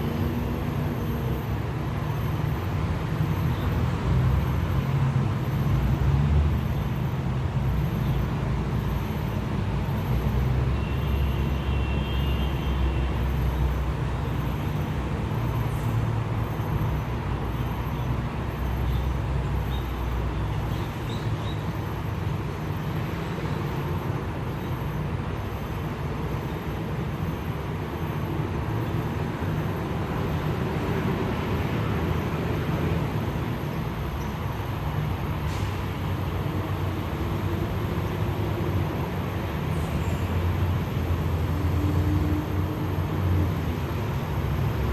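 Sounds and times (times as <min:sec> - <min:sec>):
road traffic passing: 0:00.0 - 0:44.9.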